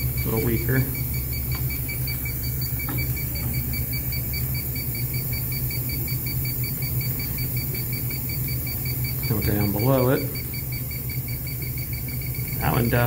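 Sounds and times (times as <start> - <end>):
fan humming: 0.0 - 13.0
leak detector beeping rapidly: 0.0 - 13.0.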